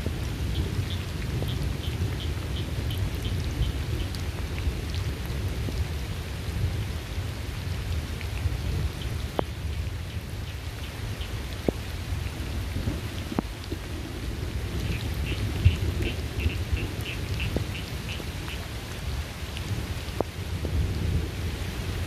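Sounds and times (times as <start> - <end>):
heavy rainfall: 0.0 - 22.0
low rumble of thunder: 0.0 - 22.0.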